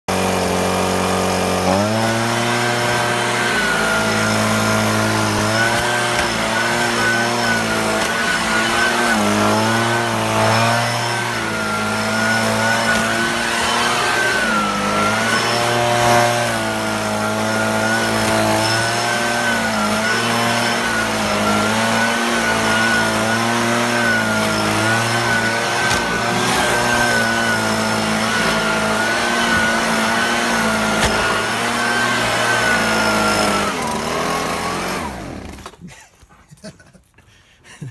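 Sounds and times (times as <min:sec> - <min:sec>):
leaf blower engine running: 0:00.1 - 0:35.9.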